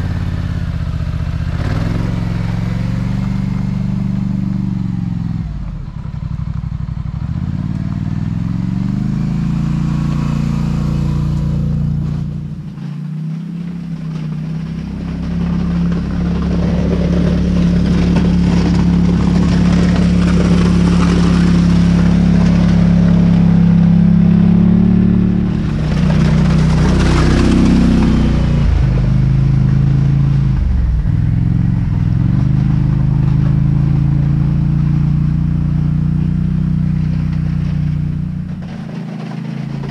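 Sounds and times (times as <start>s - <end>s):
engine running and revving: 0.0s - 39.9s
plow blade scraping snow: 7.2s - 39.9s.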